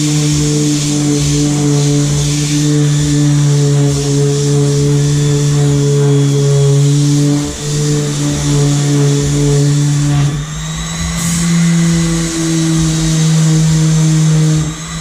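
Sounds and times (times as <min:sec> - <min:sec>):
electric power sander running: 0:00.0 - 0:15.0.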